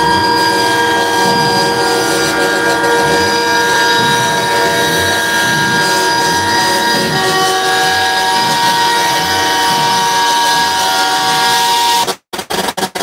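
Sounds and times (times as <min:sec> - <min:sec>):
truck air horns blaring: 0:00.0 - 0:12.2.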